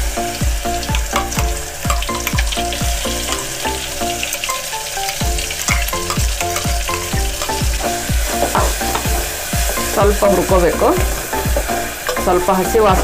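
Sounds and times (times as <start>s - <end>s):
background music with drum beat: 0.0s - 4.2s, 5.1s - 13.0s
chilli paste sizzling in oil: 0.0s - 13.0s.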